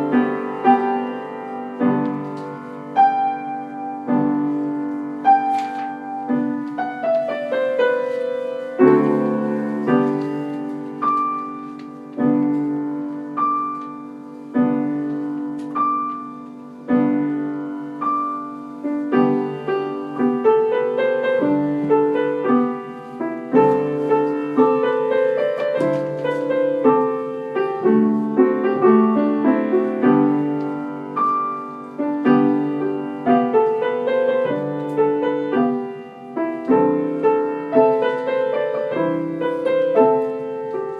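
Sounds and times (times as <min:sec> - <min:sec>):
solo piano music: 0:00.0 - 0:40.9.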